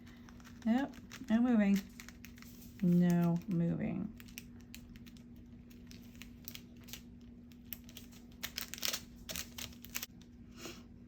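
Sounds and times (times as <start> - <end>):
paper rustling: 0.0 - 10.1
paper crinkles: 0.0 - 10.3
faint low hum: 0.0 - 11.0.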